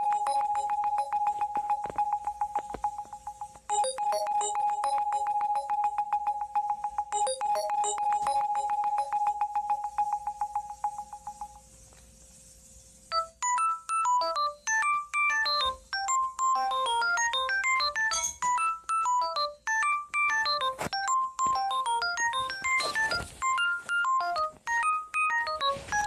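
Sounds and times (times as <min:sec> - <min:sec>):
phone beeping: 0:00.0 - 0:11.6, 0:13.1 - 0:26.0
phone ringtone melody: 0:00.0 - 0:11.7, 0:13.1 - 0:26.0.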